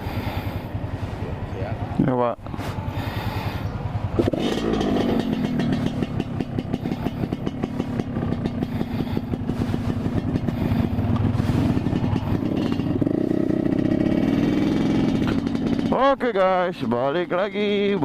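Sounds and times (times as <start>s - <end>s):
two-stroke motorcycle engine revving: 0.0s - 16.4s.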